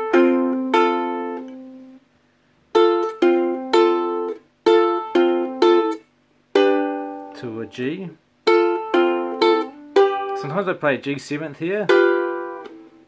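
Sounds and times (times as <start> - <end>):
ukulele strings plucked: 0.0 - 2.0, 2.7 - 10.9, 11.6 - 13.0.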